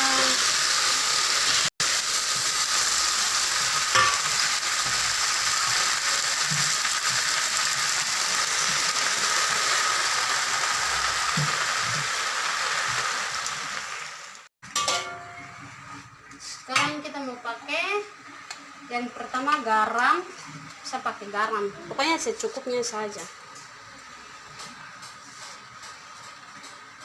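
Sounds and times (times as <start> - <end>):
vegetables sizzling in oil: 0.0 - 27.0.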